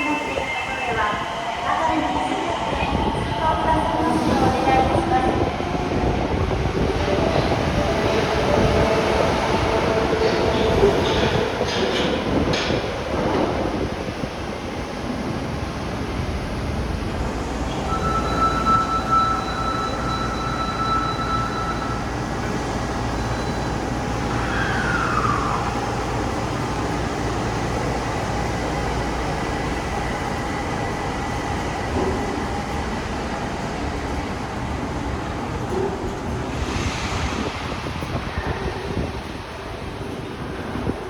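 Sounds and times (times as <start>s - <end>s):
train rumble: 0.0s - 41.0s.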